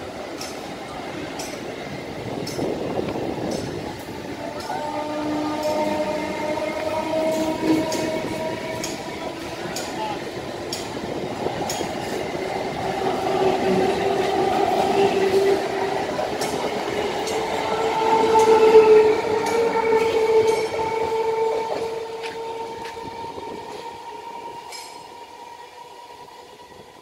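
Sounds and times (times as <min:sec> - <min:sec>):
train coaches rumbling past: 0:00.0 - 0:27.0
train whine: 0:00.0 - 0:27.0
wheels clicking over rail joints: 0:00.2 - 0:23.0.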